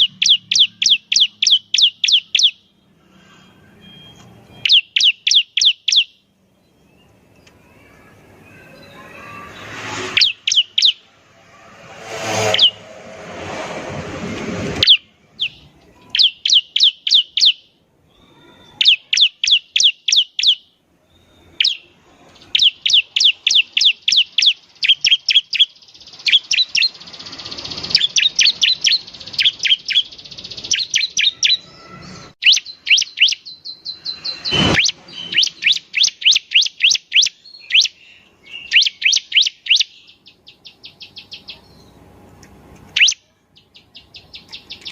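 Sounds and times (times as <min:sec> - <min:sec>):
bird singing rapid chirps: 0:00.0 - 0:12.9, 0:14.8 - 0:42.1, 0:42.9 - 0:44.9.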